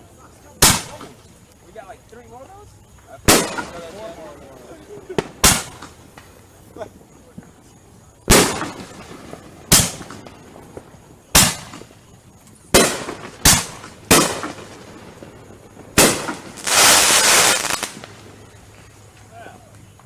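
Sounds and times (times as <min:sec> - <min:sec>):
dense burst of fireworks noise: 0:00.0 - 0:02.4, 0:03.2 - 0:20.0
fireworks bangs: 0:00.5 - 0:01.9, 0:03.0 - 0:19.9.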